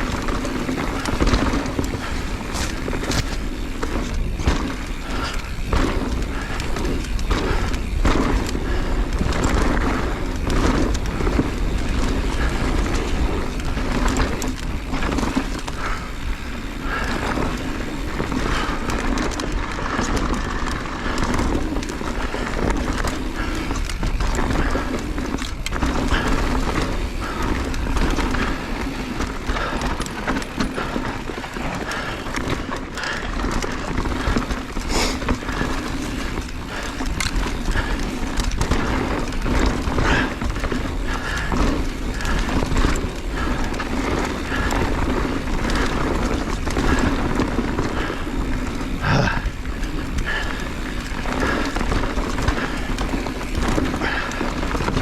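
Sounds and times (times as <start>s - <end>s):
bike knocking and rattling: 0.0s - 55.0s
tyre and wind rush: 0.0s - 55.0s.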